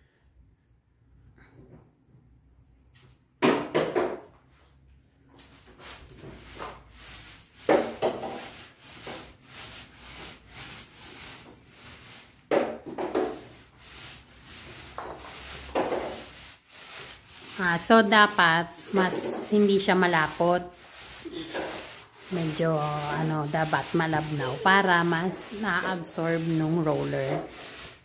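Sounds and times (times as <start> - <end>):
paint roller rasping on wall: 5.4 - 28.0.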